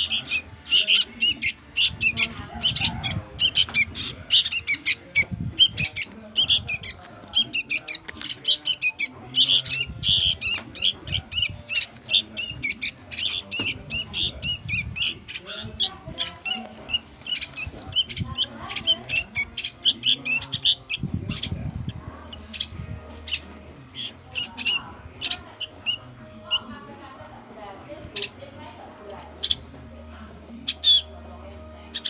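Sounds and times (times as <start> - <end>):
baby birds chirping: 0.0 - 26.7, 29.4 - 29.6, 30.6 - 31.1.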